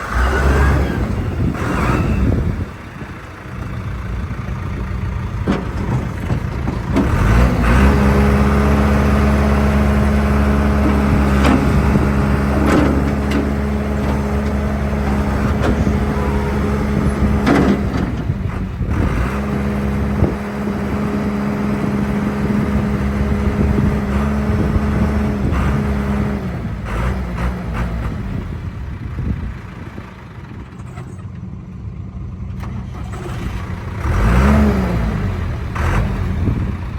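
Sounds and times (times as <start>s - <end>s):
backhoe diesel engine revving: 0.0s - 31.2s, 32.5s - 36.9s.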